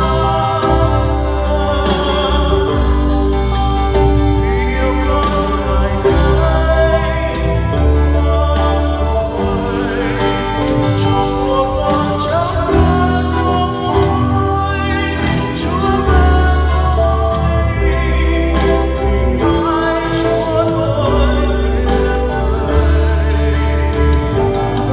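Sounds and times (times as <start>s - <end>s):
instrumental accompaniment: 0.0s - 24.9s
man singing into a microphone: 0.0s - 24.9s.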